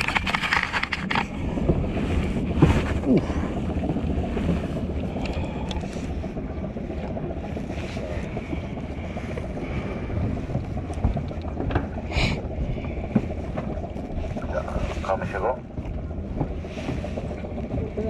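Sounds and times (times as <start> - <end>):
wind and water low rumble: 0.0 - 18.0.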